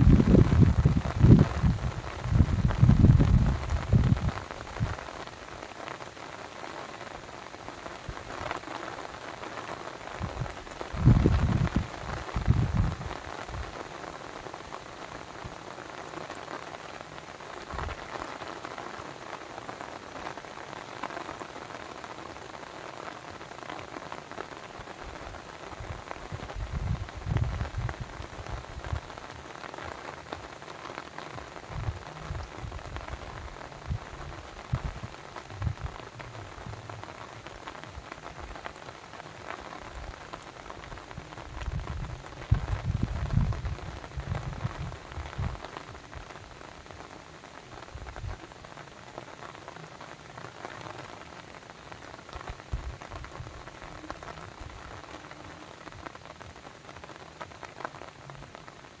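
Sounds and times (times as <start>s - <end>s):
running water hiss and patter: 0.0s - 59.0s.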